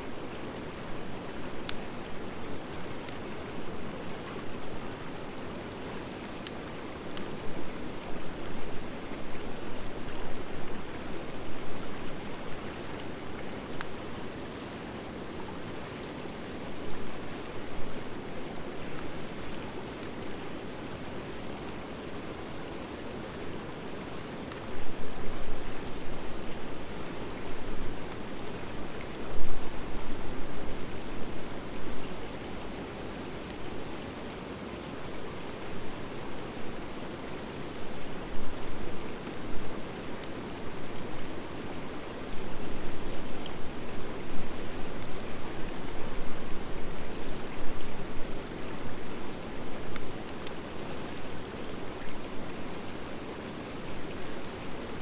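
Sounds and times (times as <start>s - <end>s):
campfire burning with hiss: 0.0s - 55.0s
fire crackles: 0.4s - 55.0s.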